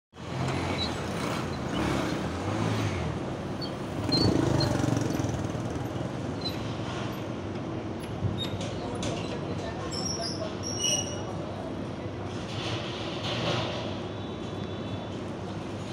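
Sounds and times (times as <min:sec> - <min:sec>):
street traffic rumble: 0:00.1 - 0:15.9.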